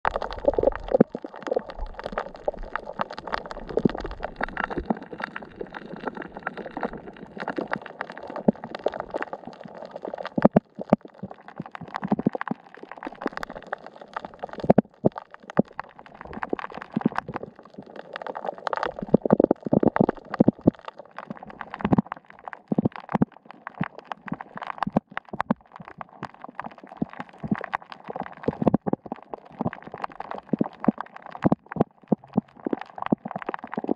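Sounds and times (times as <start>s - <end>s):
muffled underwater wash: 0.0s - 33.9s
sharp underwater clicks and pops: 0.0s - 33.9s.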